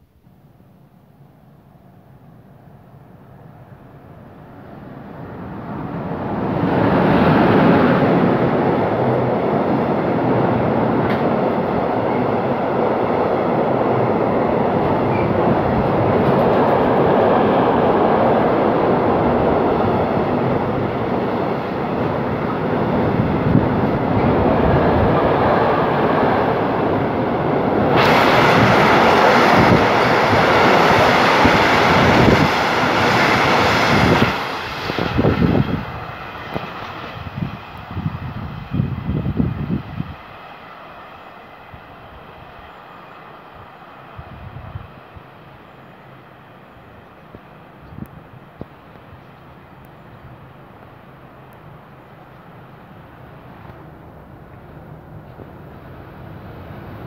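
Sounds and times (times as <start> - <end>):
train wheels rumbling on rails: 3.6 - 57.0.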